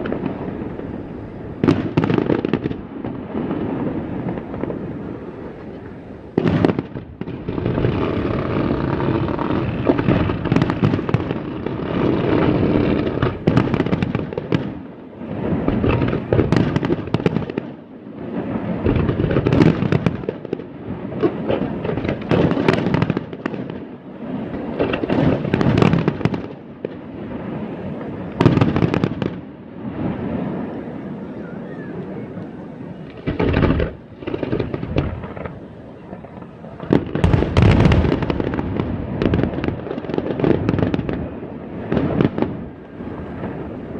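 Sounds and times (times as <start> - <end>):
fireworks crackling and popping: 0.0 - 43.9.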